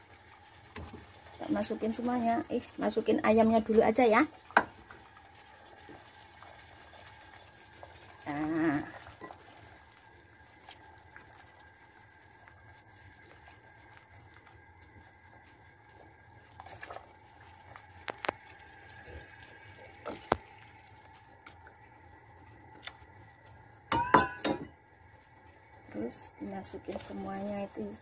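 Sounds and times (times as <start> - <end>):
water boiling with low bubbling: 0.0 - 28.0.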